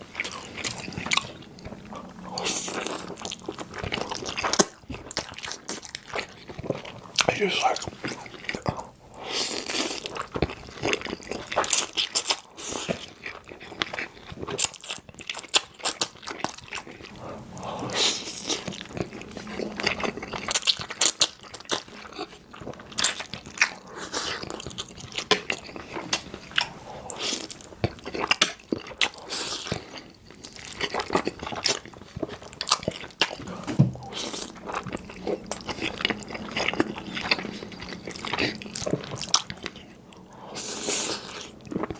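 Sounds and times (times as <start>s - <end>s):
person chewing pasta: 0.0s - 41.9s.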